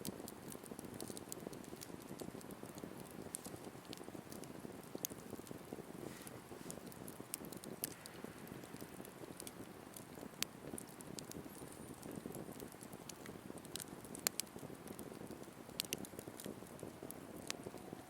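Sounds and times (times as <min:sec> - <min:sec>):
campfire burning: 0:00.0 - 0:18.0
fire crackling and popping: 0:00.0 - 0:18.0.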